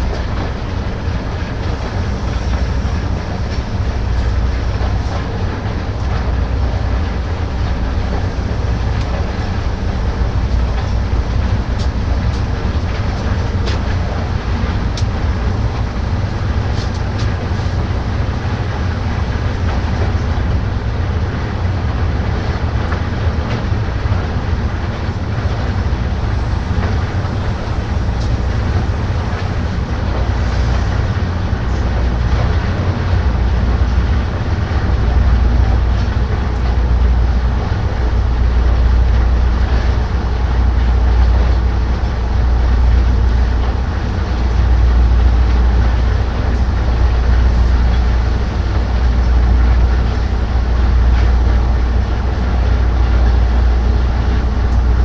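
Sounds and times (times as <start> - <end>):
heavy machinery rumbling: 0.0 - 55.0.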